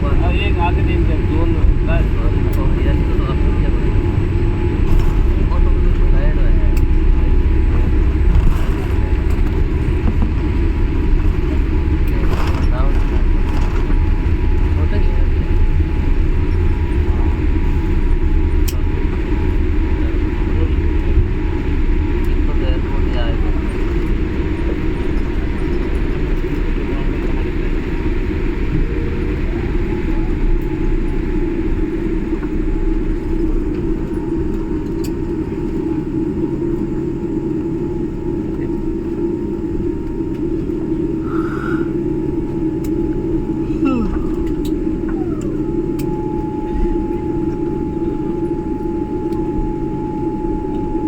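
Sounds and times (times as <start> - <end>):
faint steady whine: 0.0 - 51.0
jet airliner cabin rumble: 0.0 - 51.0.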